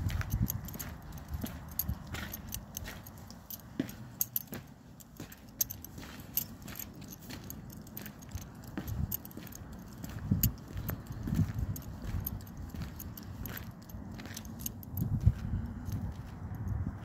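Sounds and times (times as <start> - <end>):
wind rumble on microphone: 0.0 - 4.0, 6.0 - 17.0
scattered clicks: 0.0 - 15.2
keys jingling: 0.0 - 16.8.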